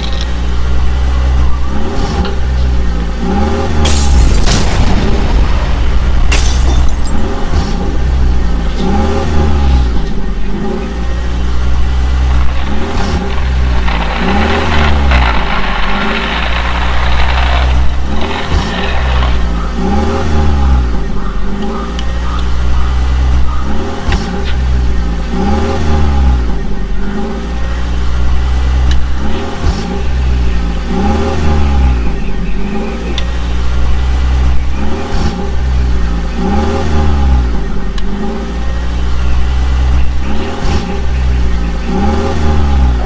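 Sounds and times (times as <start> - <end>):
engine revving: 0.0 - 43.0.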